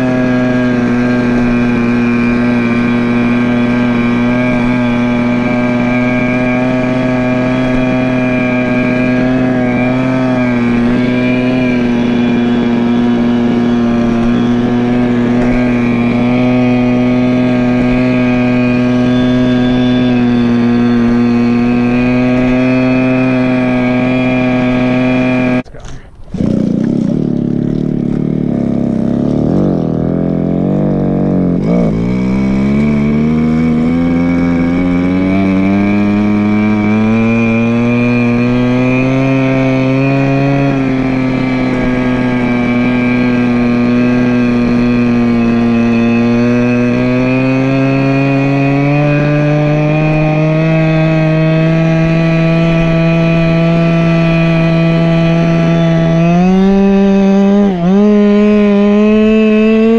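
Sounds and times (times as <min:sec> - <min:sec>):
scooter small engine running: 0:00.0 - 0:59.9.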